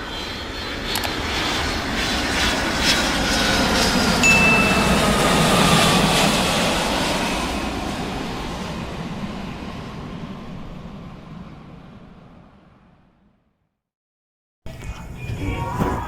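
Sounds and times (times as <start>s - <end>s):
passing plane engine: 0.0s - 13.4s.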